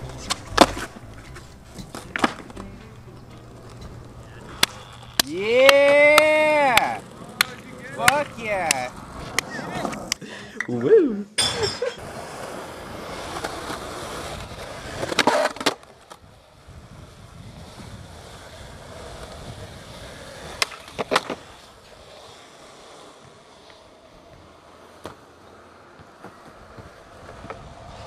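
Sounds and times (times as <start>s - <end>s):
skateboard clacks: 0.0s - 10.2s, 12.0s - 28.0s
skateboard wheels rolling: 0.0s - 10.4s, 11.8s - 28.0s.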